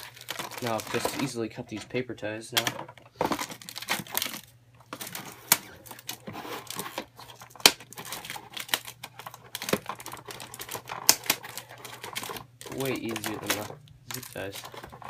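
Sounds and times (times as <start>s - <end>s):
packaging crinkling: 0.0s - 1.7s, 2.6s - 15.0s.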